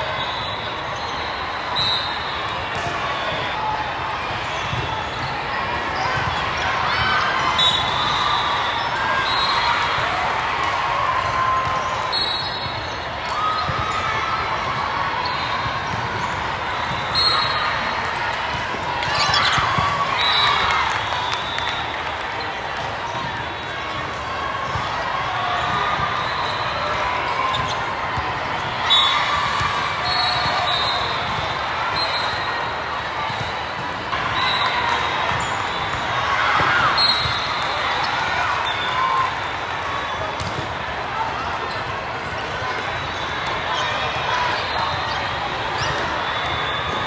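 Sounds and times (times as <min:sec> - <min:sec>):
voices of players and spectators: 0:00.0 - 0:47.0.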